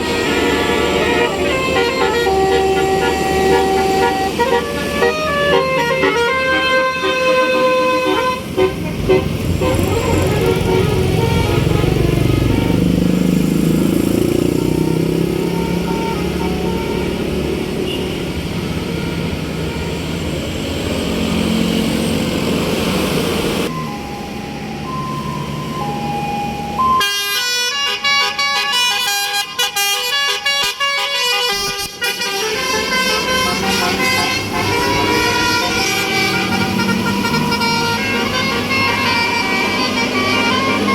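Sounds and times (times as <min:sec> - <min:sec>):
musical air horn tune: 0:00.0 - 0:13.4, 0:14.4 - 0:20.1, 0:23.7 - 0:40.9
bus engine passing: 0:00.0 - 0:40.9.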